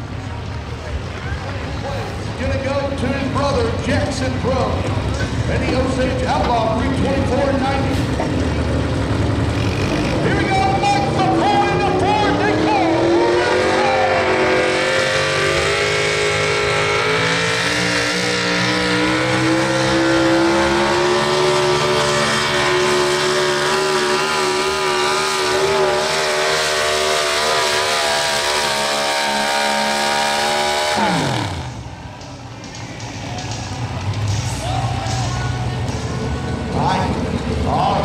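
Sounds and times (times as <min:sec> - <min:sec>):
truck engine running hard: 0:00.0 - 0:38.0.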